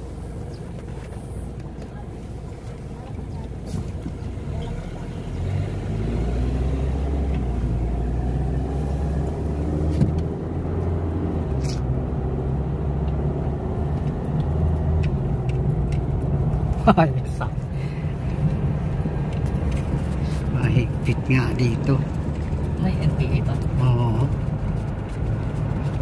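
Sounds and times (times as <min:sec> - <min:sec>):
car engine drone: 0:00.0 - 0:26.0
road noise inside car: 0:00.0 - 0:26.0.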